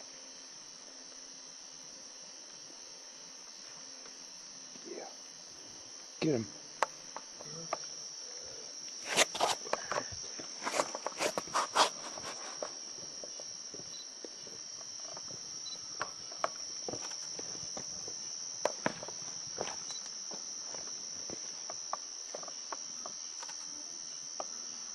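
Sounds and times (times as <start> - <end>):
insects trilling: 0.0 - 24.9.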